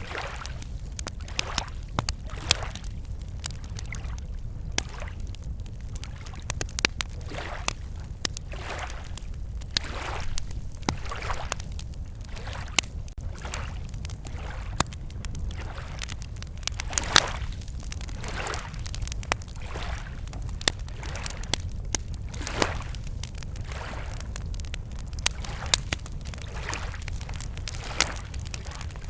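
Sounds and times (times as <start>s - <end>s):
small waves lapping on shore: 0.0s - 24.3s, 24.9s - 29.0s
campfire crackling and popping: 0.0s - 29.0s.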